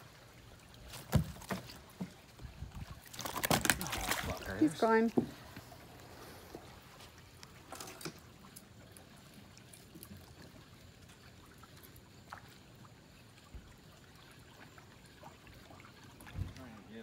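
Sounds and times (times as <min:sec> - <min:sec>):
water lapping and trickling: 0:00.0 - 0:17.0.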